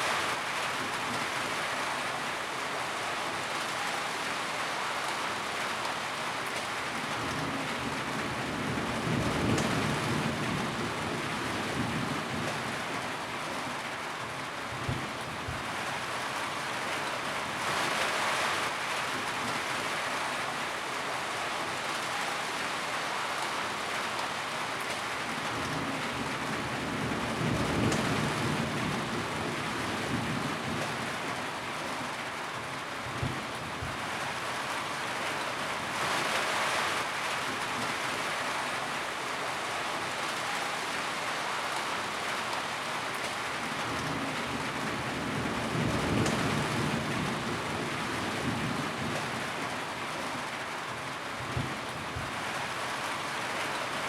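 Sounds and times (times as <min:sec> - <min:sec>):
rain drumming on a tin roof: 0:00.0 - 0:54.0.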